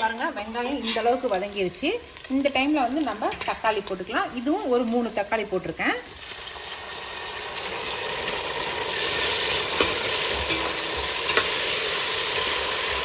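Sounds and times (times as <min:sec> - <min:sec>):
onions and tomatoes sizzling in oil: 0:00.0 - 0:13.0.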